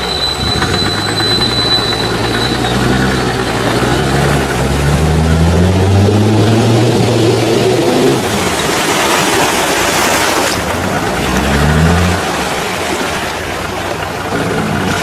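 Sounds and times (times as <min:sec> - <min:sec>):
loud steady rushing noise: 0:00.0 - 0:15.0
off-road engine revving under load: 0:00.4 - 0:12.8, 0:14.1 - 0:15.0.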